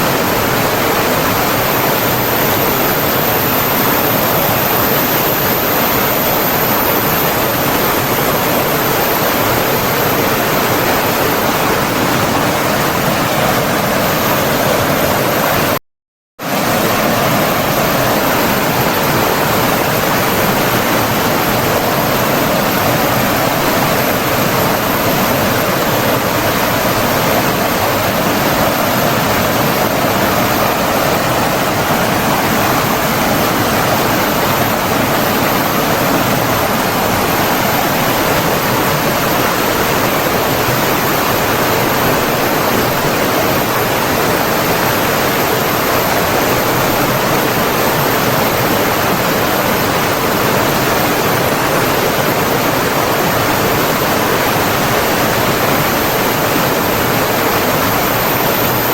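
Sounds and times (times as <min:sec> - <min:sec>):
water rushing: 0:00.0 - 0:15.8, 0:16.4 - 0:58.9.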